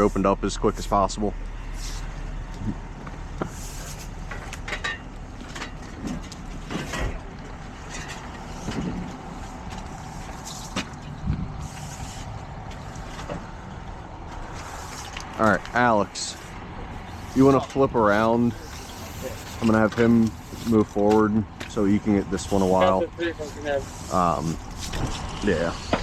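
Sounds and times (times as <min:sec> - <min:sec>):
vehicles idling: 0:00.0 - 0:26.0.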